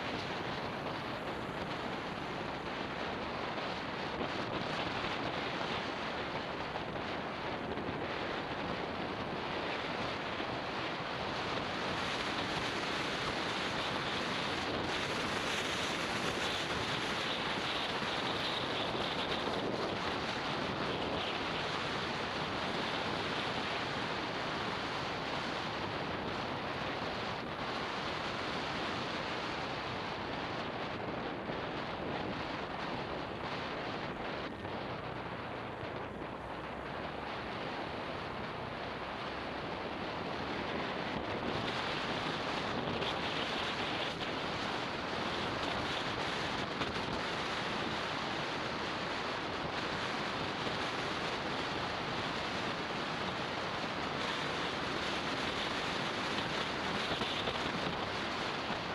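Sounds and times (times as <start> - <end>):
road noise: 0.0 - 58.9
wind rushing on microphone: 0.0 - 58.9.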